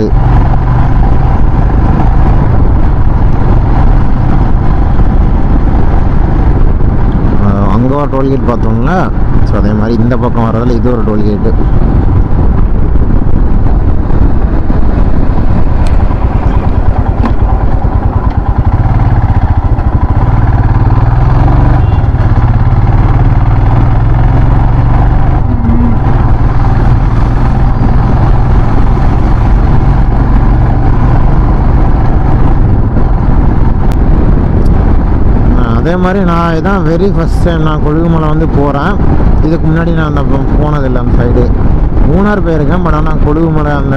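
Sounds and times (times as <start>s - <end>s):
motorcycle engine running: 0.0s - 7.9s, 11.4s - 43.0s
wind noise on microphone: 0.0s - 43.9s.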